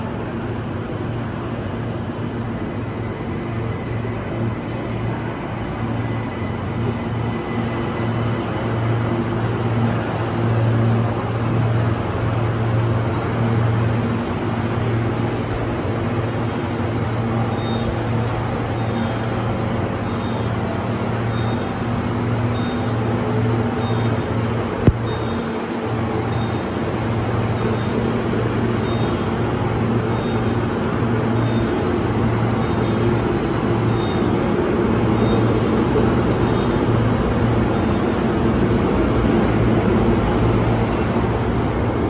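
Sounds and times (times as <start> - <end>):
electric train humming and rumbling: 0.0 - 42.0.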